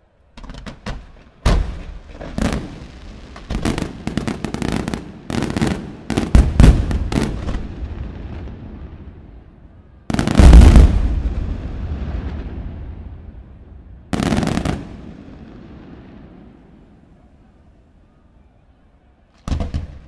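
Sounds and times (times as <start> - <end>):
fireworks bursting: 0.4 - 9.5, 10.1 - 17.0, 19.4 - 20.0.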